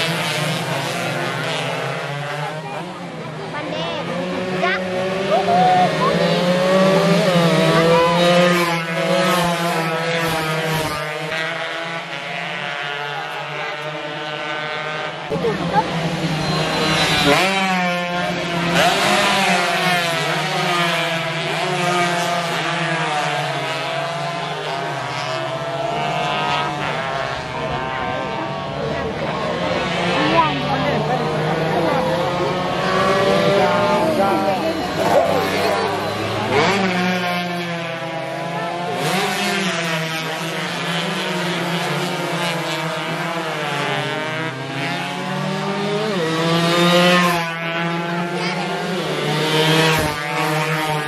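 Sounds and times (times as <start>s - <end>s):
racing motorcycle engines revving: 0.0s - 51.0s.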